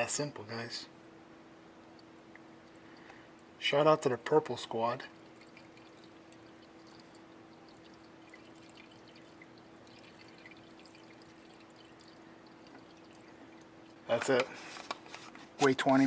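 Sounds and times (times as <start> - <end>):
low steady hum: 0.0 - 16.0
liquid trickling into pipe: 1.8 - 15.7.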